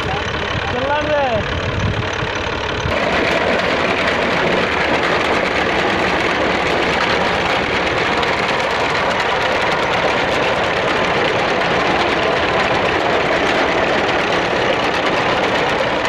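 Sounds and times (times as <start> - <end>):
reaper working: 0.0 - 16.0
tractor engine running: 0.0 - 16.0.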